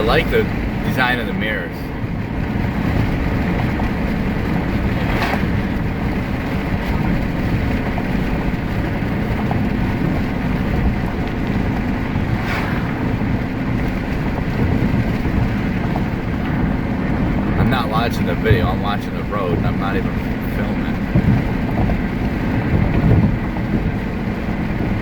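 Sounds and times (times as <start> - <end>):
car driving at road speed: 0.0 - 25.0.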